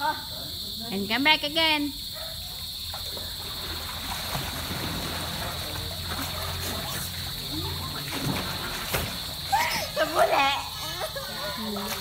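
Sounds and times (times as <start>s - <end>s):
high insect drone: 0.0s - 12.0s
water splashing in pool: 2.4s - 12.0s.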